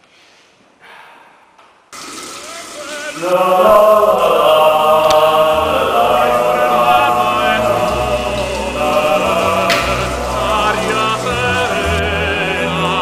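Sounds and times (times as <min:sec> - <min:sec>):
choir singing with vibrato: 0:02.5 - 0:13.0.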